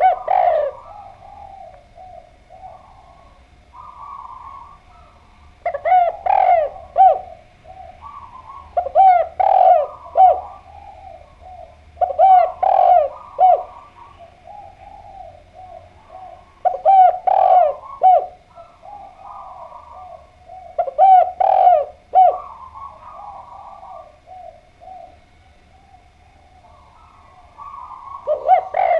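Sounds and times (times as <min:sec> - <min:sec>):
dove cooing: 0:00.0 - 0:28.9
faint bird calls: 0:00.0 - 0:28.9.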